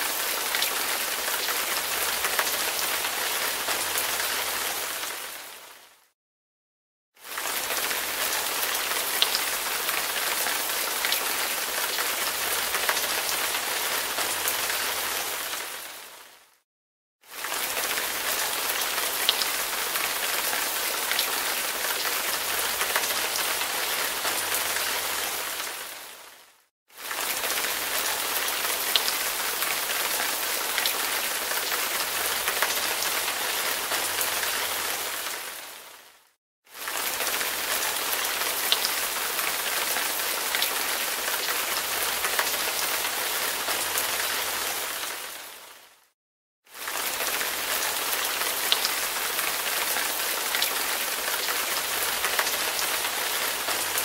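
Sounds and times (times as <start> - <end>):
rain falling: 0.0 - 6.1, 7.2 - 16.6, 17.3 - 36.2, 36.8 - 46.0, 46.7 - 54.0.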